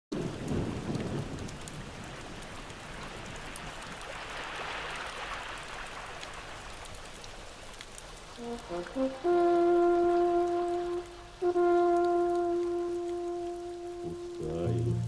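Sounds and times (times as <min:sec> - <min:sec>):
campfire crackling: 0:00.3 - 0:15.0.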